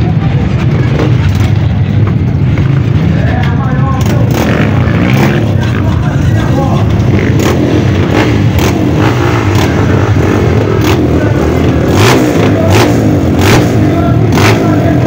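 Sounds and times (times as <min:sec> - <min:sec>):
motorcycles idling and revving: 0:00.0 - 0:15.0
sharp engine crackles: 0:00.0 - 0:15.0.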